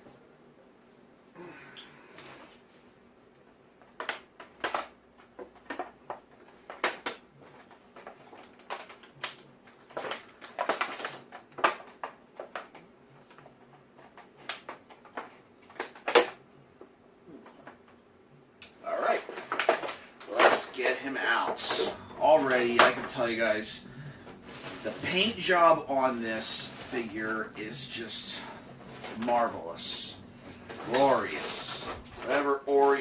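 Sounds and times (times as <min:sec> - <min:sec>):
plastic packaging crackling: 0:03.9 - 0:16.4, 0:18.9 - 0:33.0.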